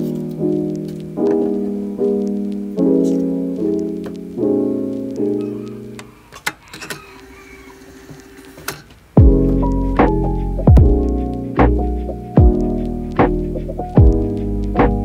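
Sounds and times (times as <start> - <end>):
lo-fi piano chords: 0.0 - 6.3, 8.3 - 15.0.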